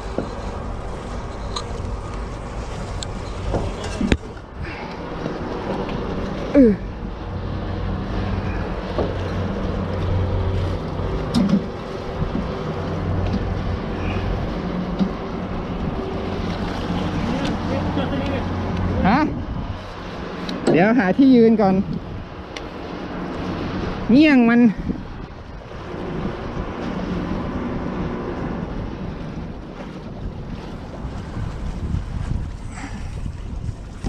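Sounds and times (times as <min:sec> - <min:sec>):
ship machinery hum: 0:00.0 - 0:34.0
wind: 0:00.0 - 0:34.0.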